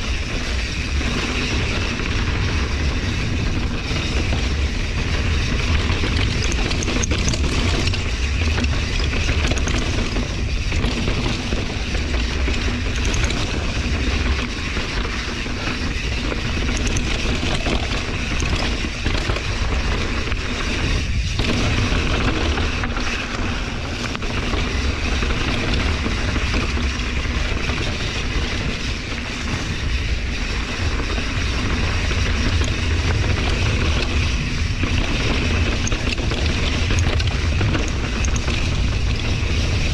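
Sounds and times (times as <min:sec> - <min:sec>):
bike tyres rolling over dirt and rock: 0:00.0 - 0:39.9
wind on microphone: 0:00.0 - 0:39.9.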